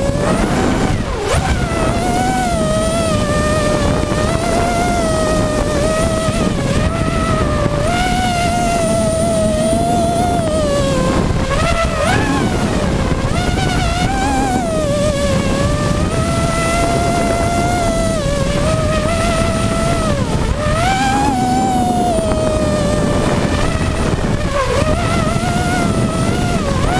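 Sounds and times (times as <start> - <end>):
drone motors whining: 0.0 - 26.9
rush of air noise: 0.0 - 26.9.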